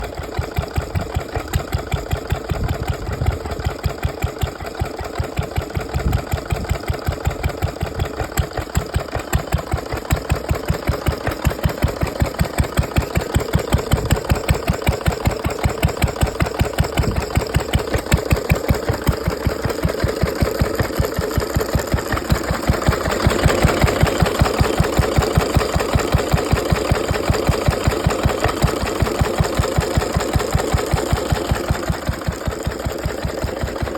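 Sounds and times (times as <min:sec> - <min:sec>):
stationary engine running: 0:00.0 - 0:33.9.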